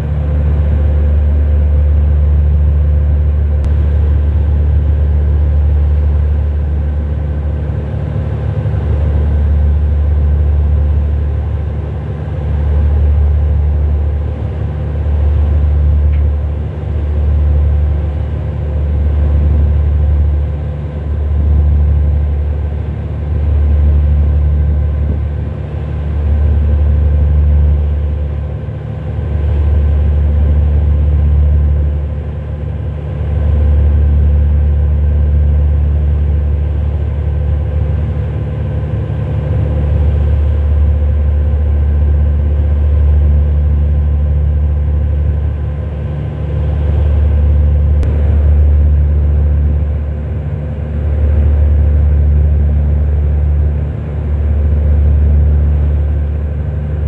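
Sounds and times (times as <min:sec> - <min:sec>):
ship engine droning: 0:00.0 - 0:57.0.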